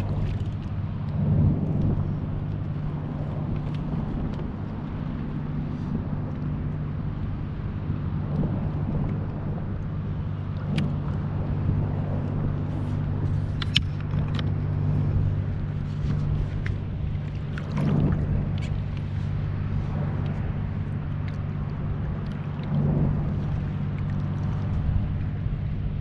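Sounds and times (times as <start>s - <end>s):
motor engine hum: 0.0s - 26.0s
wind buffeting microphone: 0.0s - 26.0s.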